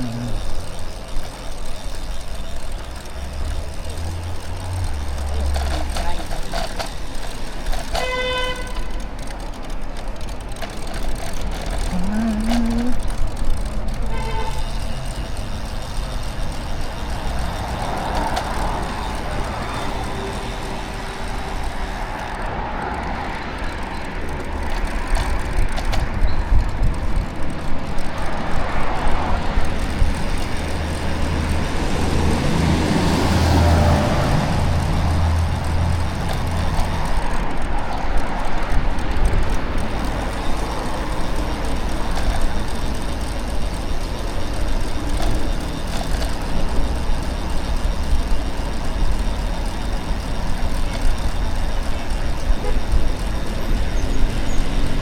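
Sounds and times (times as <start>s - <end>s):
passing motor vehicles: 0.0s - 55.0s.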